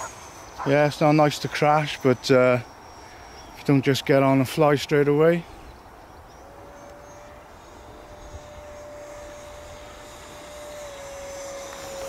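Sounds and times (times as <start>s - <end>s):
model jet fan whining: 0.0s - 12.0s.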